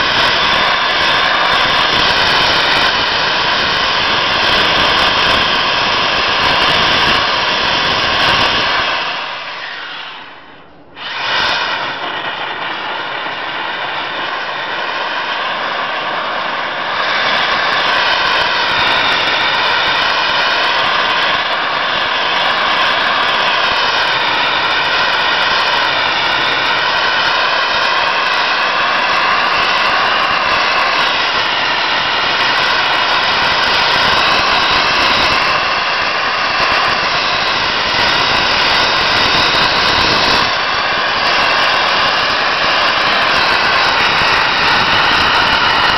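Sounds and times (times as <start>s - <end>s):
sandblaster rushing air and grit: 0.0s - 45.9s.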